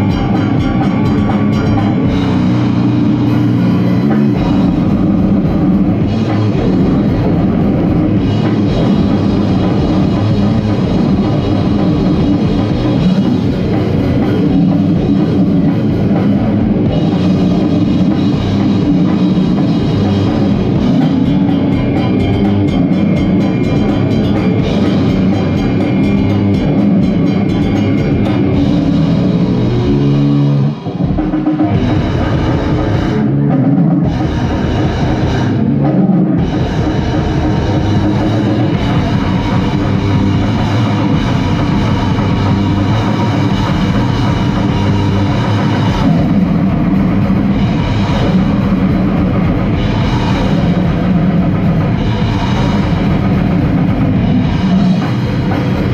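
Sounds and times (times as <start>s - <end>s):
fast drumming on drum kit: 0.0s - 55.9s
heavily distorted guitar and bass: 0.0s - 55.9s.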